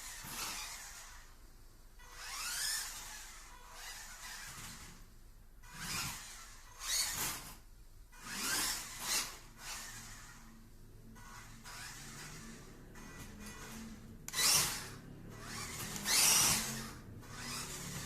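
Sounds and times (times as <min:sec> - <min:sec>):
toy car electric motor whining: 0:00.0 - 0:01.3, 0:02.0 - 0:05.0, 0:05.6 - 0:10.6, 0:11.2 - 0:18.0.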